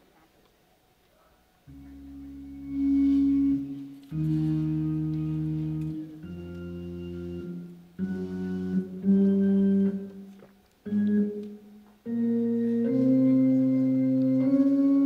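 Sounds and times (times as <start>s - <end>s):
organ playing held chords: 1.6s - 15.0s.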